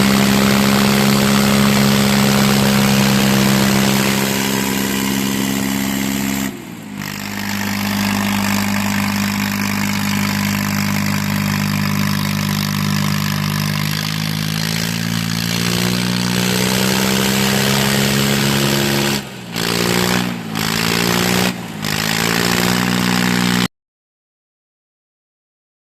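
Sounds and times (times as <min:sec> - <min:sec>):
tractor diesel engines running: 0:00.0 - 0:23.7.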